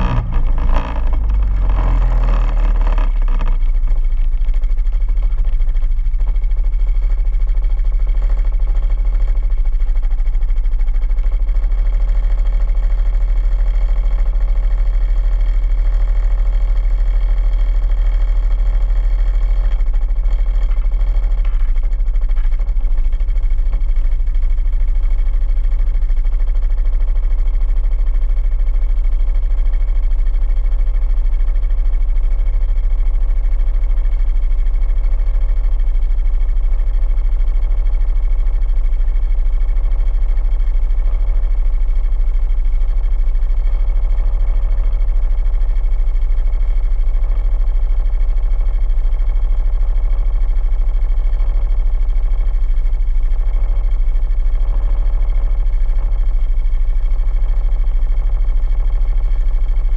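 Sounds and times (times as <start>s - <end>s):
quad bike engine idling: 0.0s - 59.9s.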